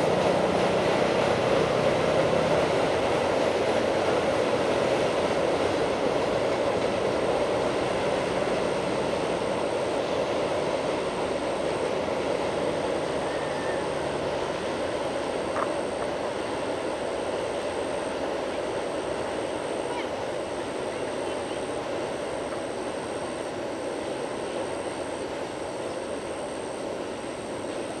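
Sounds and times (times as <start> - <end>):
freight train rumbling over bridge: 0.0 - 28.0.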